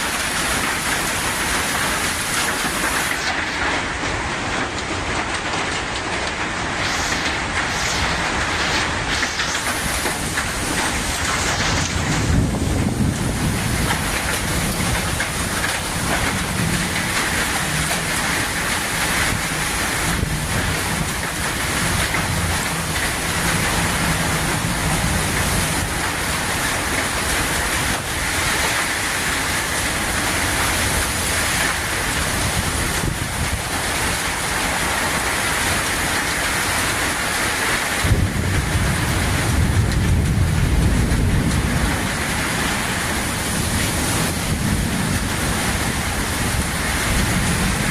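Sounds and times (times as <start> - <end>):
heavy rain falling: 0.0 - 47.9
wind: 0.0 - 47.9.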